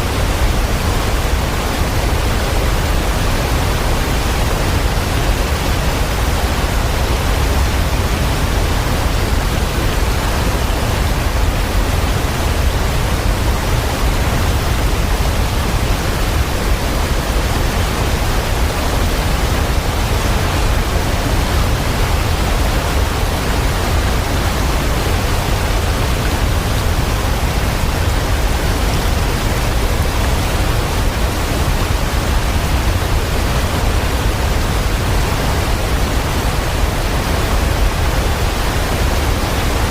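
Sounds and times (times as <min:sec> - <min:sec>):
rushing water with low rumble: 0:00.0 - 0:39.9.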